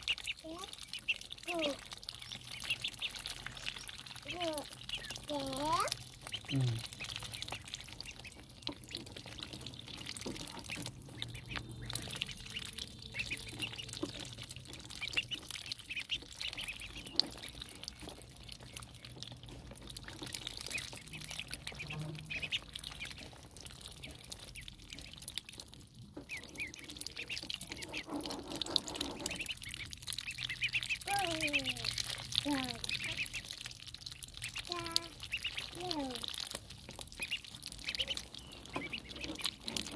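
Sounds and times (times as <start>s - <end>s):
ducklings peeping: 0.0s - 39.9s
faint water splashing and slurping: 0.0s - 39.9s.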